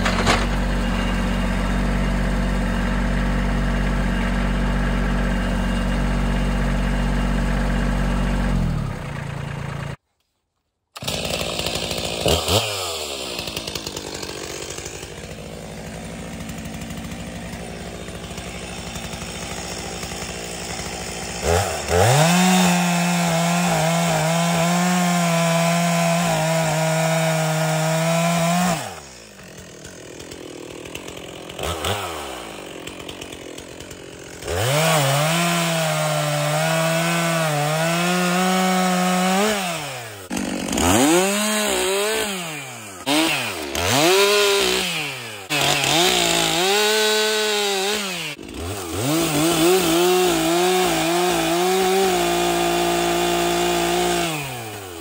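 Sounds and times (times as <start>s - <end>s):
chainsaw cutting log: 0.0s - 10.0s, 11.0s - 55.0s.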